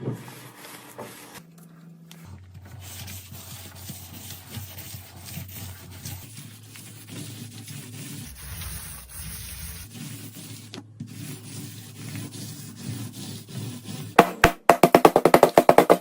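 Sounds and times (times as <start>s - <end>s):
rubbing or scraping on a surface: 0.0s - 1.4s, 2.2s - 14.2s.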